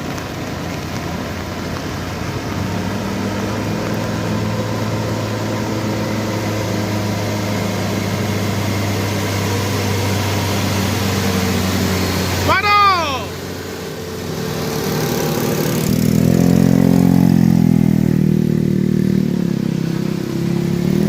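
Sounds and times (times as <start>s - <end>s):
vehicle engine under load: 0.0s - 21.0s.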